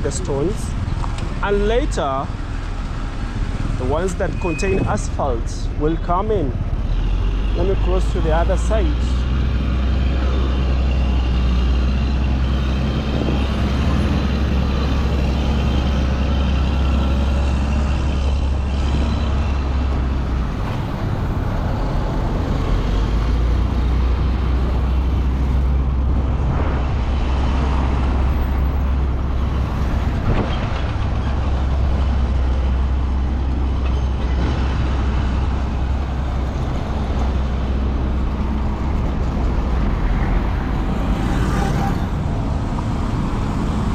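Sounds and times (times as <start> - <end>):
heavy road traffic rumble: 0.0 - 43.9.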